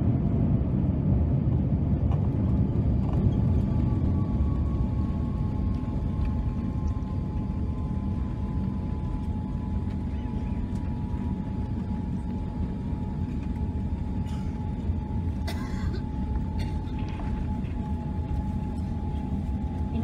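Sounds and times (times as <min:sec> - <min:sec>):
airplane cabin rumble: 0:00.0 - 0:20.0
faint steady whine: 0:01.7 - 0:20.0.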